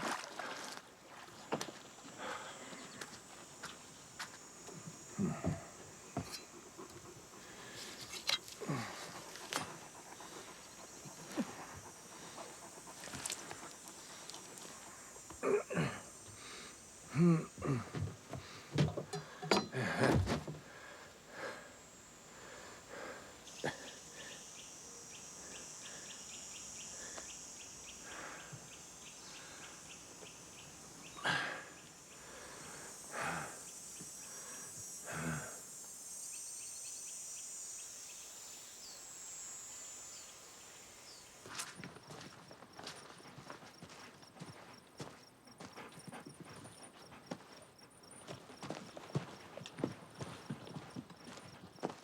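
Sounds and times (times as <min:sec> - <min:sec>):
insect chorus trilling: 0:00.1 - 0:52.0.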